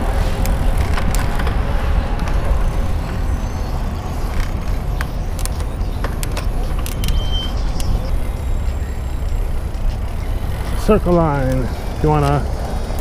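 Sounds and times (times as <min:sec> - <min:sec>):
road traffic: 0:00.0 - 0:13.0
wind rumbling on microphone: 0:00.0 - 0:13.0.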